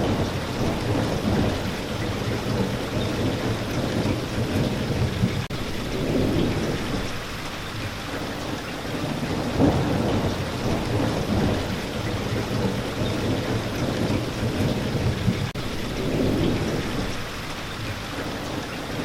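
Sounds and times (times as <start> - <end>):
heavy rain: 0.0 - 19.0
rolling thunder rumble: 0.0 - 19.0.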